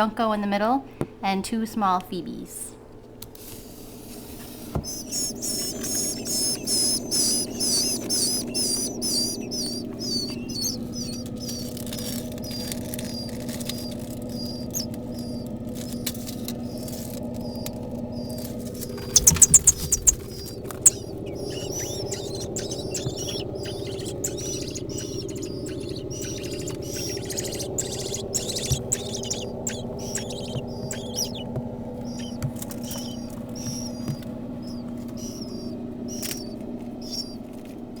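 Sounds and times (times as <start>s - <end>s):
steady low hum: 0.0s - 38.0s
nestling birds chirping: 2.9s - 38.0s.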